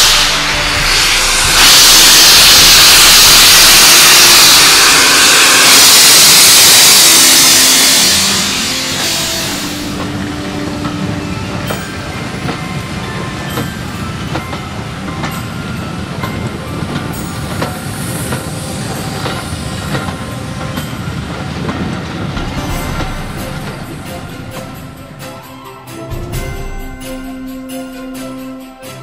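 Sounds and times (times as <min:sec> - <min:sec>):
steam hissing: 0:00.0 - 0:29.0
train wheels clicking over rail joints: 0:00.0 - 0:29.0.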